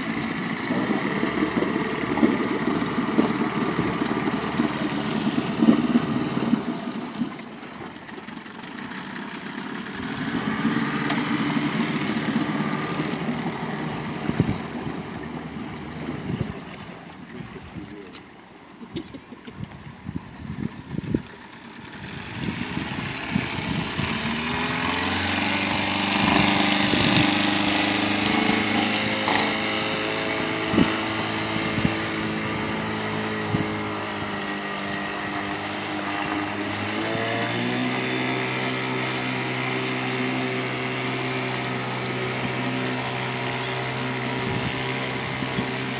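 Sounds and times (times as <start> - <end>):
churning water: 0.0 - 45.9
outboard motor running: 0.0 - 45.9.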